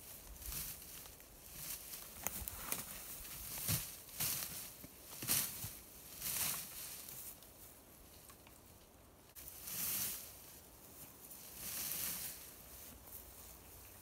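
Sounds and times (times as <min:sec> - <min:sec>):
swishes in grass and brush: 0:00.0 - 0:07.7, 0:09.3 - 0:14.0
faint rustle: 0:00.0 - 0:14.0.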